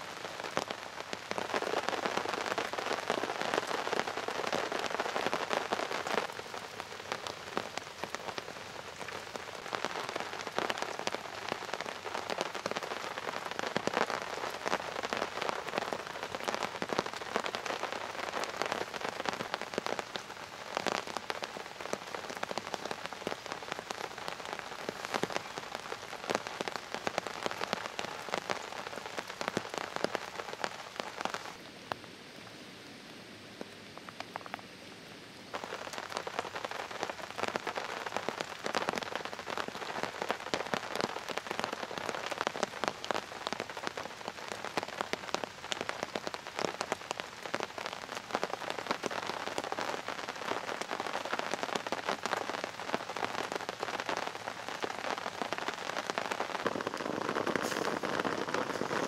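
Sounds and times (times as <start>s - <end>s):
rain on a tarp: 0.0s - 59.0s.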